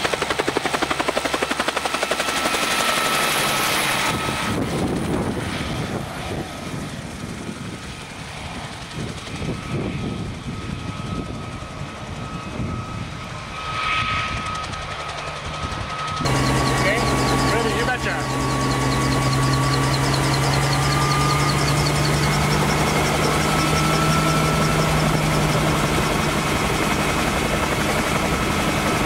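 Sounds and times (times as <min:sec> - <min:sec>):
helicopter rotor and engine: 0:00.0 - 0:29.0.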